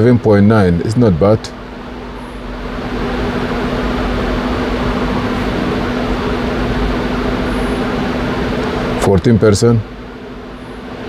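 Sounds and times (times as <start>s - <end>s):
electric cooling fan humming: 0.0s - 11.0s.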